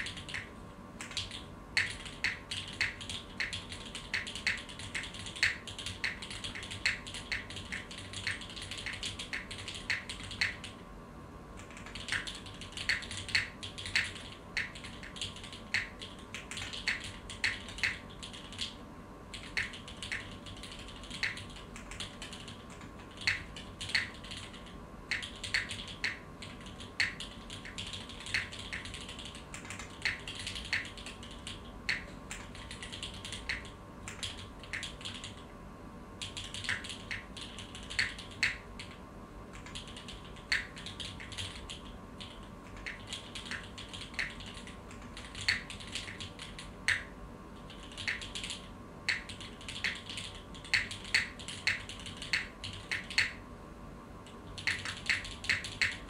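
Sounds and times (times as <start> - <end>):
mechanical keyboard keystroke clacks: 0.0 - 10.7, 11.6 - 35.4, 36.2 - 39.0, 39.6 - 53.4, 54.6 - 56.0.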